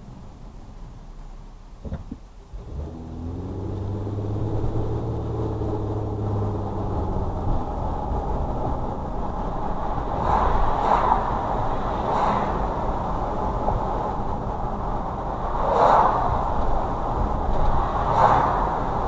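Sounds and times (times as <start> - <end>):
road rumble: 0.0 - 19.0
car engine accelerating: 0.8 - 19.0.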